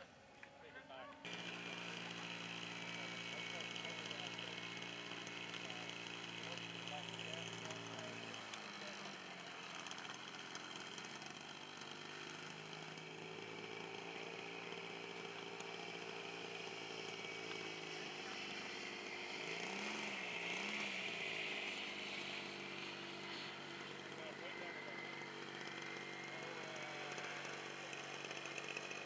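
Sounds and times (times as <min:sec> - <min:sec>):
model airplane engine buzzing: 0:00.0 - 0:29.0.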